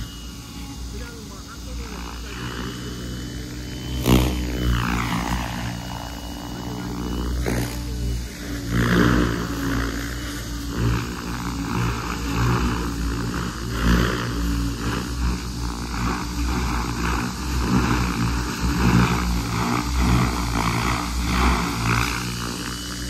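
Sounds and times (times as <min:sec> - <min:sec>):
faint motor whine: 0:00.0 - 0:23.0
helicopter rotor whir: 0:00.0 - 0:23.0.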